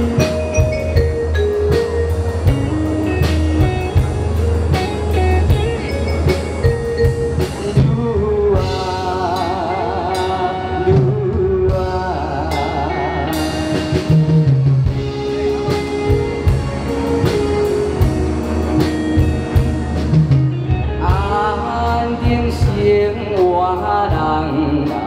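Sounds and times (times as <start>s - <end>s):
band playing pop song: 0.0s - 25.0s
drum kit beat: 0.0s - 25.0s
lead melody with vibrato: 0.0s - 25.0s.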